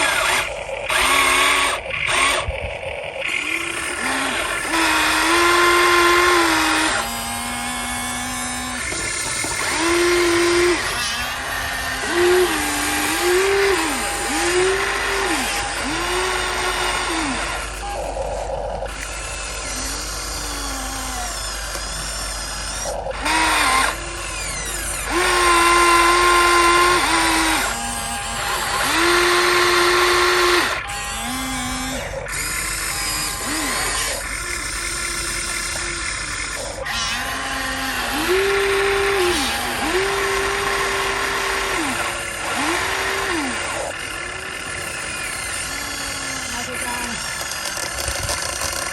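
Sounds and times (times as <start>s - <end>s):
small electric motors whining: 0.0s - 48.9s.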